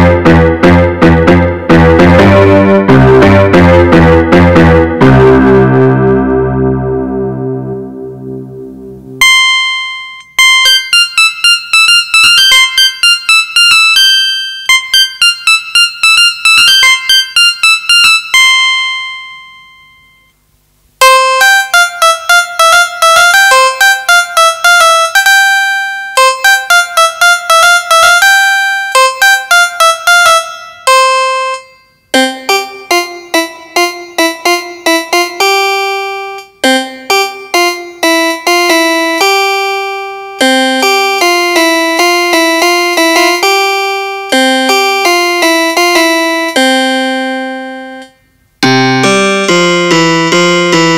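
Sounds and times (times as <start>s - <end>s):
keyboard piano melody: 0.0s - 20.2s, 21.0s - 50.9s.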